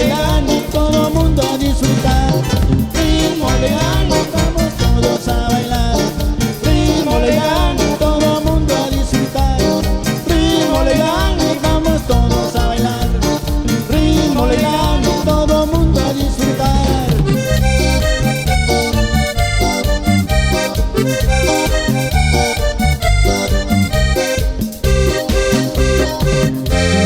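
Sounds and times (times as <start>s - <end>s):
cumbia band playing: 0.0s - 27.0s.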